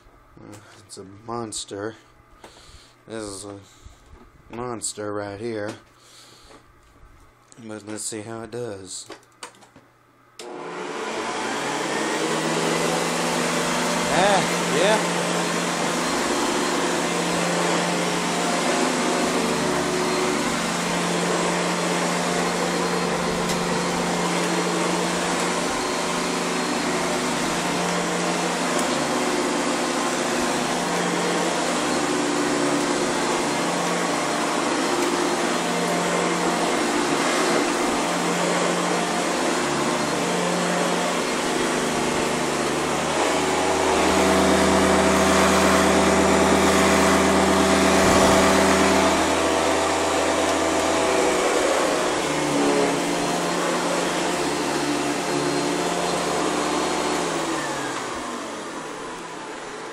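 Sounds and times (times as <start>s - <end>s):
vacuum cleaner droning: 10.4s - 59.9s.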